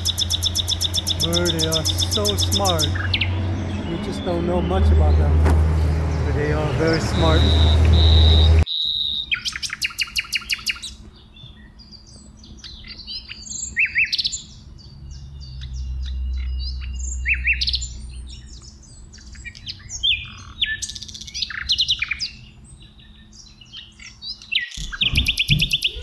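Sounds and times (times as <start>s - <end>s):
songbirds chirping and calling: 0.0s - 26.0s.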